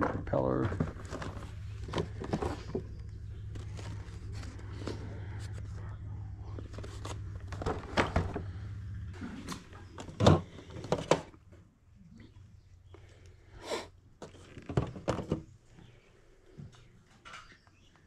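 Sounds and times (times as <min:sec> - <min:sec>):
low steady hum: 0:00.0 - 0:17.4.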